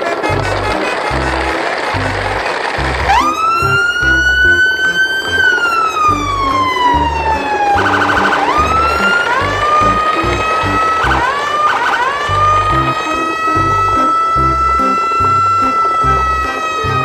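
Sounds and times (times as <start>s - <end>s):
siren wailing: 1.0s - 17.0s.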